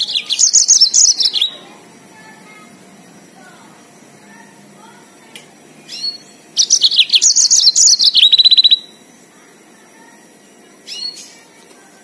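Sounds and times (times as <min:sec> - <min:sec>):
canary singing: 0:00.0 - 0:11.6.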